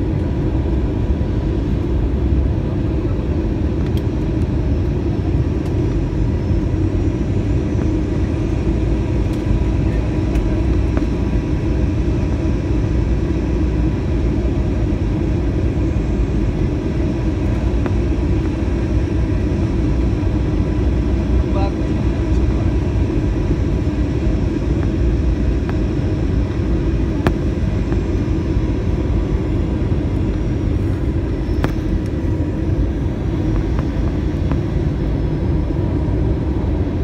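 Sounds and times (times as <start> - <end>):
airliner engine and airflow rumble: 0.0 - 37.0.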